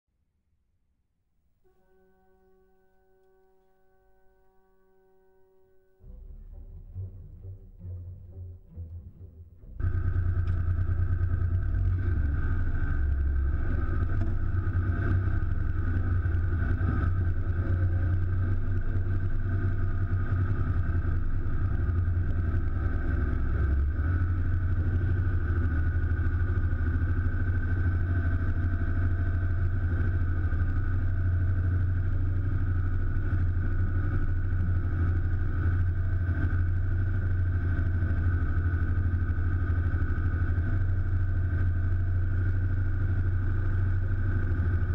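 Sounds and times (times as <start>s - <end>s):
diesel truck engine humming steadily: 6.0s - 44.9s.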